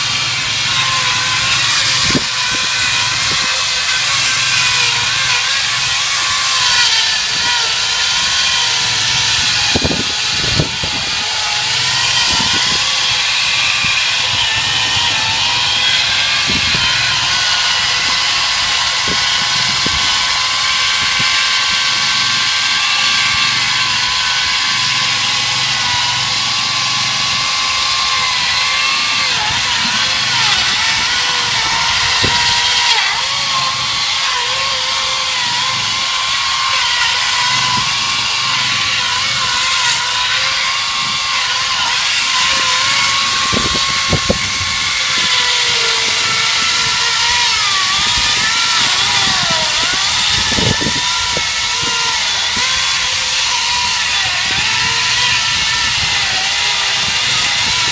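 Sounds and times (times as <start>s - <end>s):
power saw whining: 0.0s - 57.9s.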